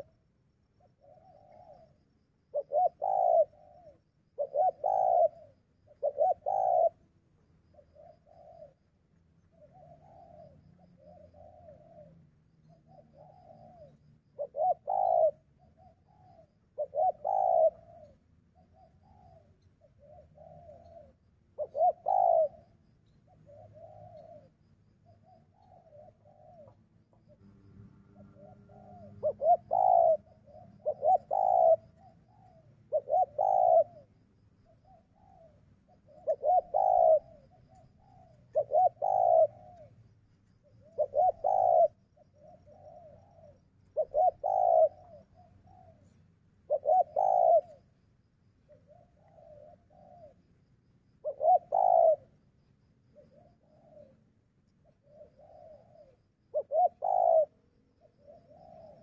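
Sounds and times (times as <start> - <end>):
doves cooing: 0.0 - 0.2, 0.8 - 50.5, 51.2 - 59.0.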